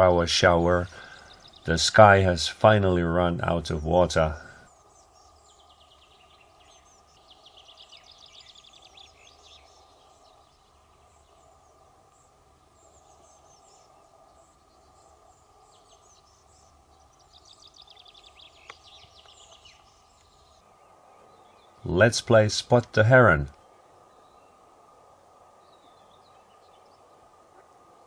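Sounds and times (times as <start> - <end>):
bird chirps: 0.0 - 28.0
steady background hiss: 0.0 - 28.0
songbird trilling: 0.8 - 2.4, 3.0 - 27.8.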